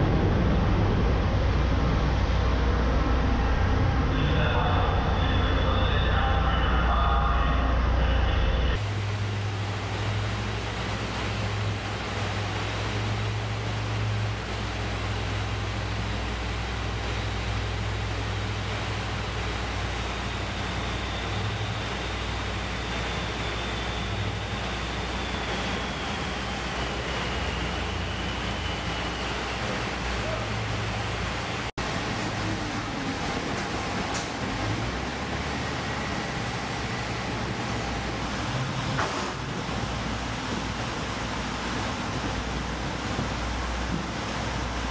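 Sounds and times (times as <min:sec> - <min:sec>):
sea water surging: 0:00.0 - 0:44.9
vehicle engine low drone: 0:00.0 - 0:44.9.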